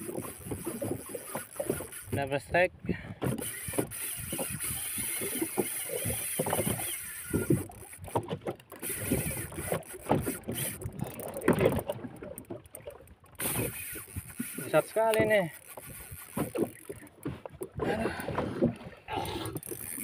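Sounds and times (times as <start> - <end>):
knocks and rubbing on fishing rod: 0.0 - 2.3, 3.2 - 19.0
fishing reel drag whining: 0.0 - 2.5, 3.2 - 17.2, 19.3 - 20.0.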